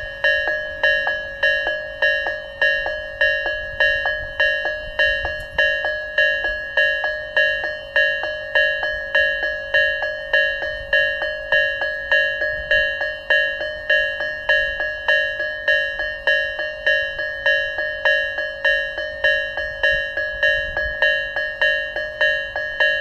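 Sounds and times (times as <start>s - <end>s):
level crossing alarm bell tone: 0.0s - 23.0s.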